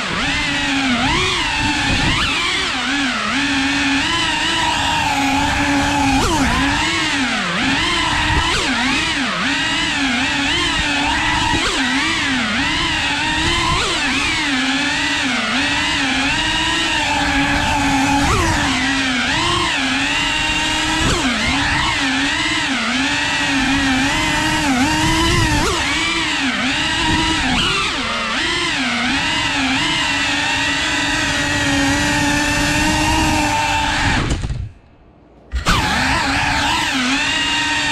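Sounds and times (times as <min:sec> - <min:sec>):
drone propellers buzzing: 0:00.0 - 0:34.6, 0:35.2 - 0:37.9.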